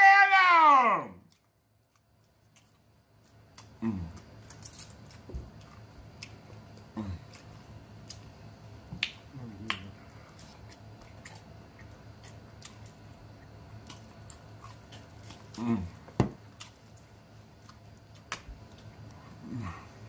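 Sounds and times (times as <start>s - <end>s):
lip smacks and chewing: 1.3s - 8.4s, 9.0s - 15.6s, 16.5s - 19.3s.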